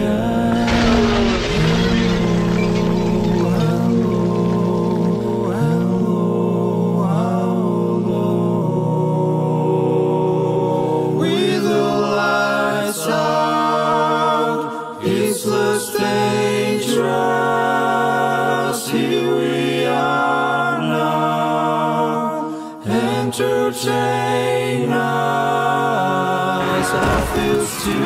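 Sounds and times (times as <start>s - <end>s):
wordless choir chords: 0.0s - 28.0s.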